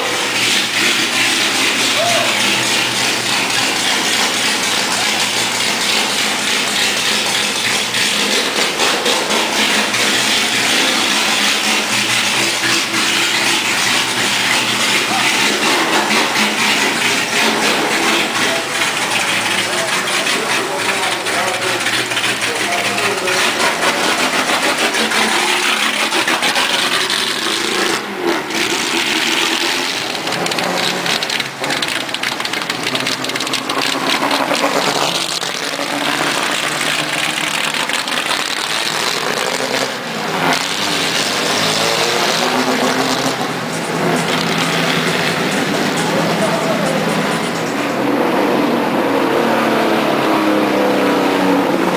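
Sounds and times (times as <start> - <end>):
race car engines revving: 0.0 - 51.9.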